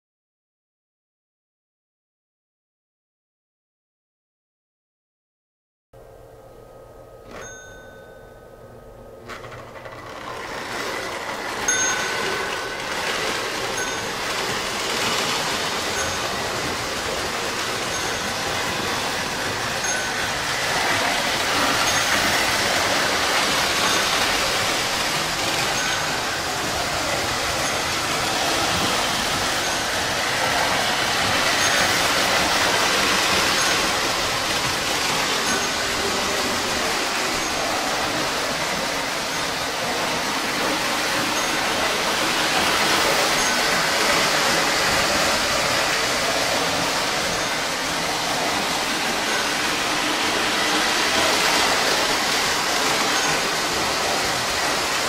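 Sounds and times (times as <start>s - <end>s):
model trains rumbling on track: 9.3s - 55.0s.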